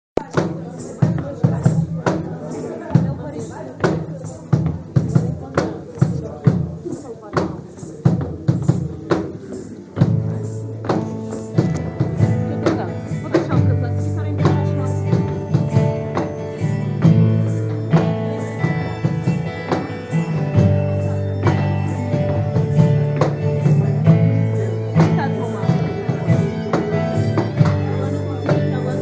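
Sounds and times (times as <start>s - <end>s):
drum beats: 0.2s - 29.0s
folk melody line: 0.2s - 29.0s.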